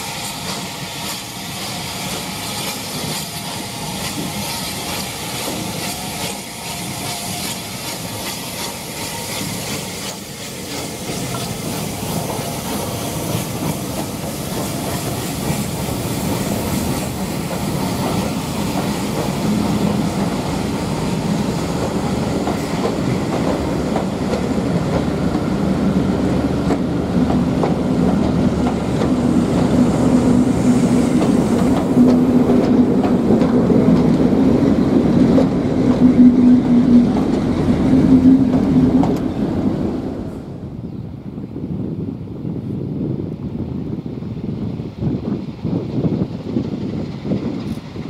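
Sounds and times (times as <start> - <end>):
train wheels clicking over rail joints: 0.1 - 39.4, 45.7 - 48.0.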